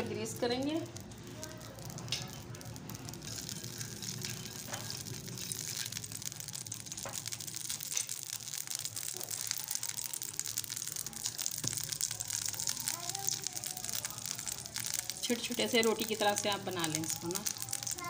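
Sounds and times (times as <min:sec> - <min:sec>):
oil sizzling in frying pan: 0:00.0 - 0:18.0.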